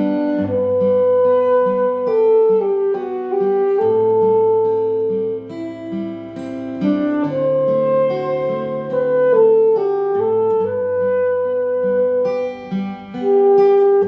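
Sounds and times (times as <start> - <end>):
slow melody wind-like lead: 0.0 - 14.0.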